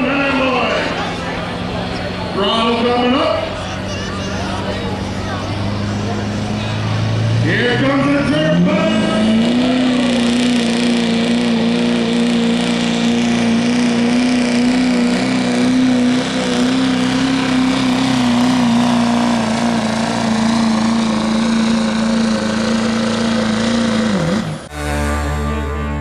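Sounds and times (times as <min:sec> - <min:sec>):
diesel truck engine at full throttle: 0:00.0 - 0:26.0.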